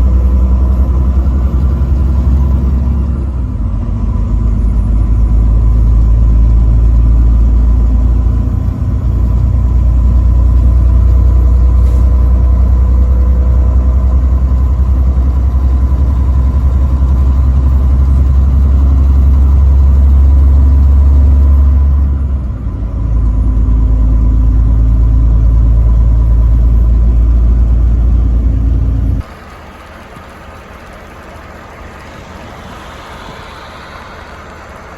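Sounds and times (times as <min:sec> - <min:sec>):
truck engine and road rumble: 0:00.0 - 0:34.9.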